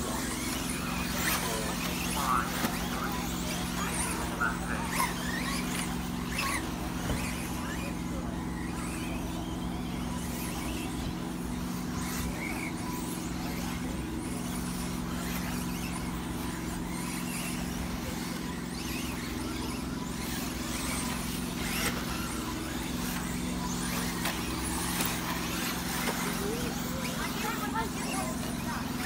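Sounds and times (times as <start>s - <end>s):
rc cars passing high-pitched: 0.0s - 29.0s
steady low hum: 0.0s - 29.0s.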